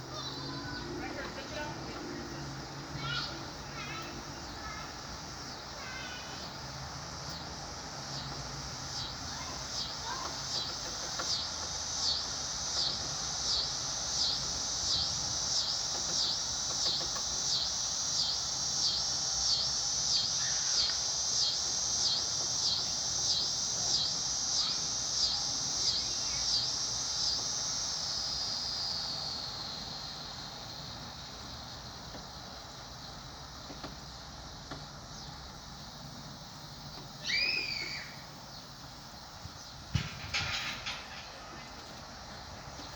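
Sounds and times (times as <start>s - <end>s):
insect pulsing buzz: 0.0s - 40.0s.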